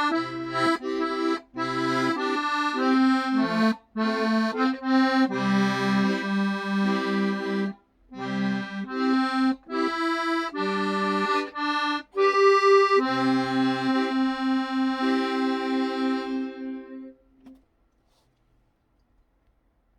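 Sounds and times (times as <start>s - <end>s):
accordion playing slow melody: 0.0s - 17.2s.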